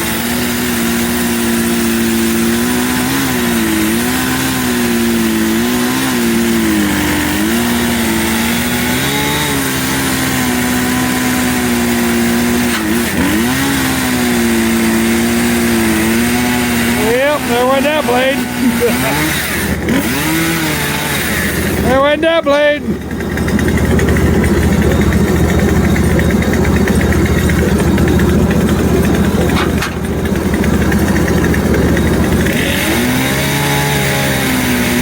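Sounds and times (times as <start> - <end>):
sawmill engine running under load: 0.0 - 35.0.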